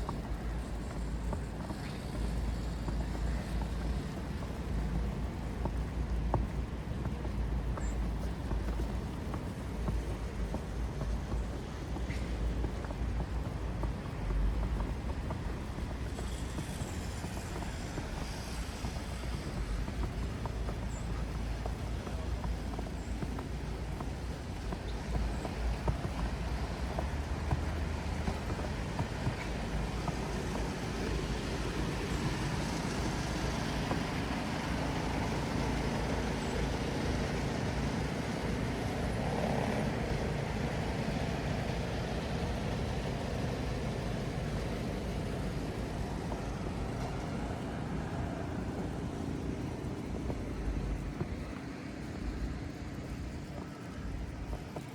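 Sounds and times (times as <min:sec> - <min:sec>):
rumble of passing cars: 0:00.0 - 0:54.9.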